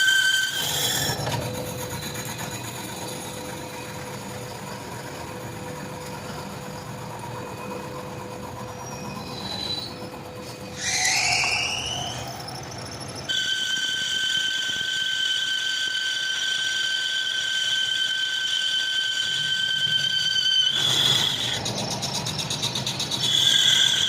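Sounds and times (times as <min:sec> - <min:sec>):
machine tool rumble and whine: 0:00.0 - 0:24.0
rising squeal: 0:00.0 - 0:24.0.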